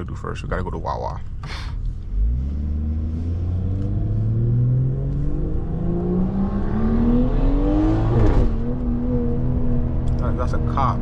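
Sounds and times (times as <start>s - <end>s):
car engine revving through gears: 1.8s - 11.0s.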